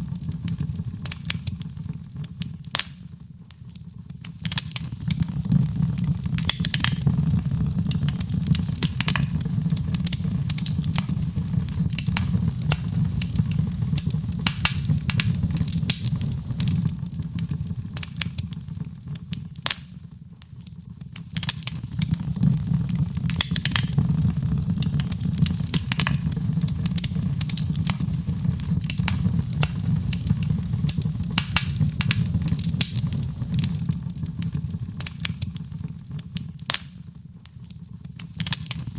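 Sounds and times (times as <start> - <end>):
low rumble of flame: 0.0 - 38.9
wood fire crackling: 0.0 - 38.9.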